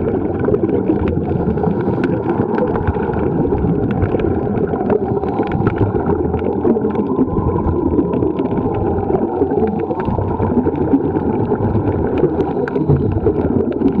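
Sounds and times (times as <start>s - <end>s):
underwater rumble of moving water: 0.0s - 14.0s.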